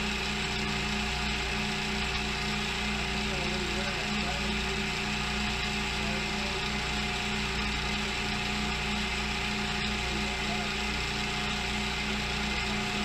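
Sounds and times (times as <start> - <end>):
milling machine running: 0.0 - 13.0.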